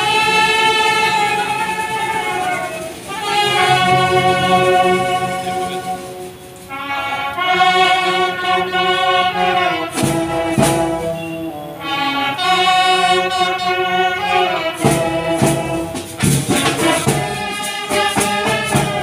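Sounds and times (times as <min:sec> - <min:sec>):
brass band playing held chords: 0:00.0 - 0:19.0
percussion strokes: 0:00.0 - 0:19.0.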